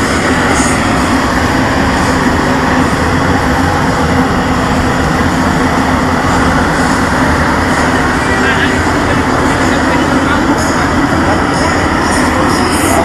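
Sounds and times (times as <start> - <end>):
loud engine humming: 0.0 - 13.0.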